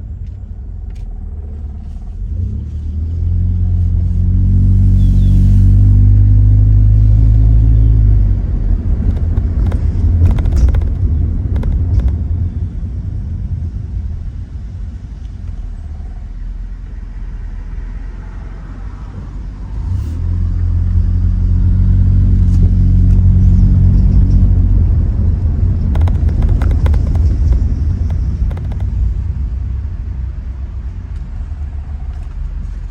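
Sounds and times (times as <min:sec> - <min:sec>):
car exhaust drone: 0:00.0 - 0:32.9.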